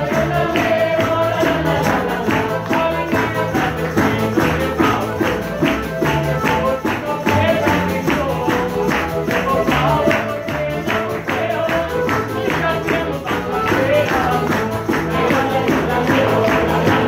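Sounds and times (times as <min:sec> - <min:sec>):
accordion: 0:00.0 - 0:17.0
double bass: 0:00.0 - 0:17.0
tambourine beat: 0:00.0 - 0:17.0
violin: 0:00.0 - 0:17.0.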